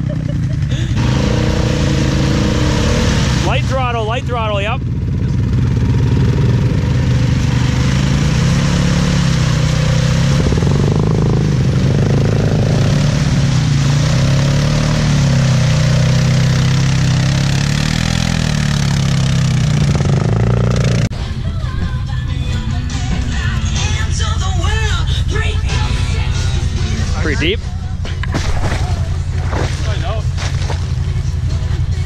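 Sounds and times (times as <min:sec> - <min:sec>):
atv engine revving: 0:00.0 - 0:21.1, 0:22.4 - 0:32.0.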